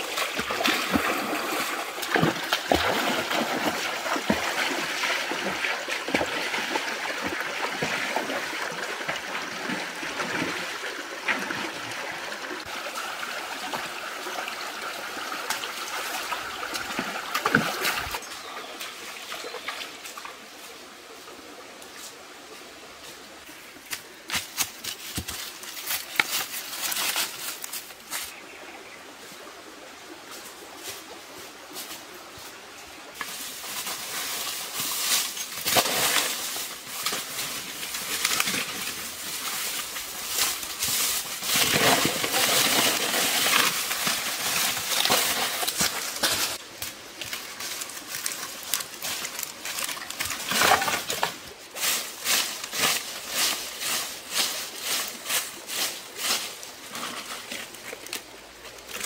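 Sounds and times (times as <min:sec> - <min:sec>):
leaves and twigs crackling underfoot: 0:00.0 - 0:29.5, 0:30.1 - 0:59.0.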